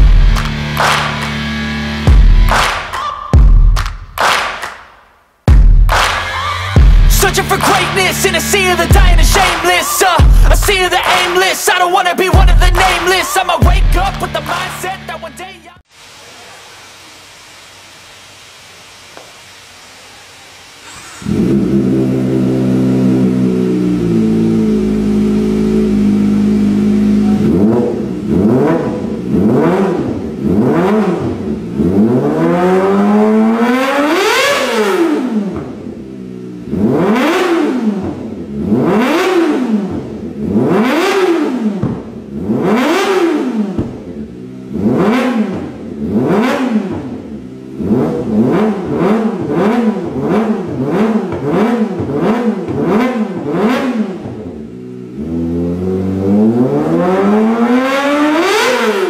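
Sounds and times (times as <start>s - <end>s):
motorcycle engine revving: 0.0s - 2.8s, 5.5s - 15.6s, 20.8s - 59.0s.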